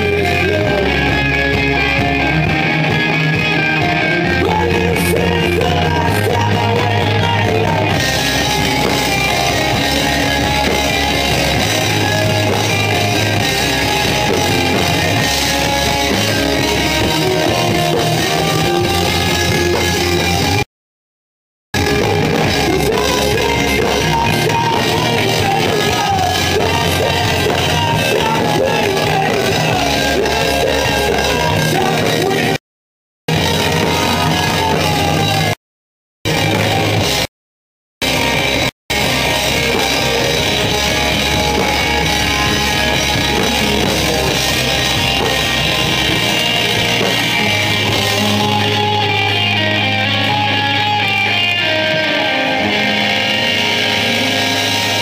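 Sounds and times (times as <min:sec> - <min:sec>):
bass guitar: 0:00.0 - 0:20.7, 0:21.8 - 0:32.6, 0:33.3 - 0:35.6, 0:36.2 - 0:37.3, 0:38.0 - 0:55.0
drum kit: 0:00.0 - 0:20.7, 0:21.8 - 0:32.6, 0:33.3 - 0:35.6, 0:36.3 - 0:37.3, 0:38.0 - 0:55.0
electric guitars: 0:00.0 - 0:20.7, 0:21.8 - 0:32.6, 0:33.3 - 0:35.6, 0:36.3 - 0:37.3, 0:38.0 - 0:55.0
person singing: 0:03.8 - 0:20.5, 0:21.8 - 0:32.6, 0:33.3 - 0:35.6, 0:39.1 - 0:54.1.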